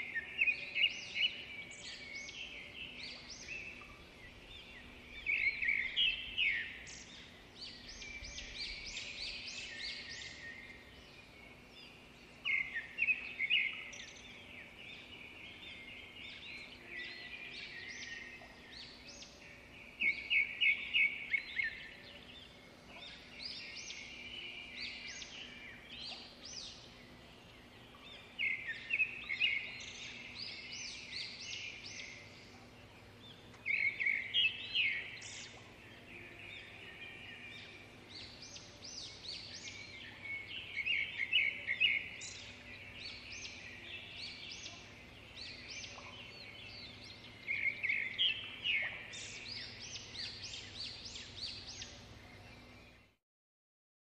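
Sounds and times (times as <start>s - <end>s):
faint steady low hum: 0.0s - 53.2s.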